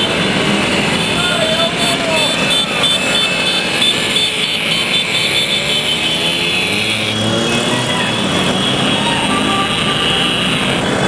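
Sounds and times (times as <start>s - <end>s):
scooter engines droning past: 0.0s - 11.0s.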